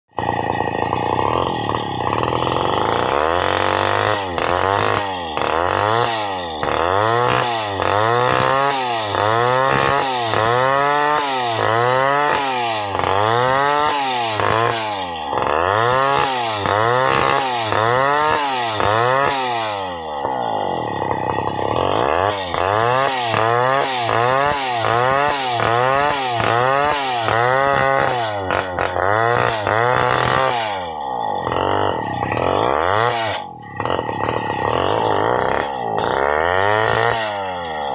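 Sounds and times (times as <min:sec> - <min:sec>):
chainsaw cutting through log: 0:00.1 - 0:37.9.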